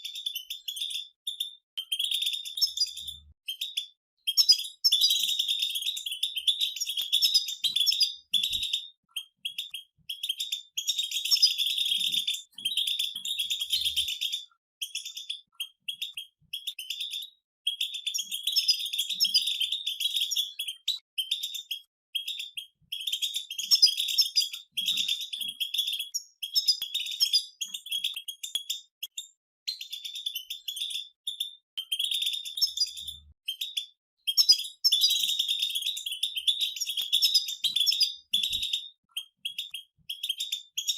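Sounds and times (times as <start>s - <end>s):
finches twittering song: 0.0s - 40.9s.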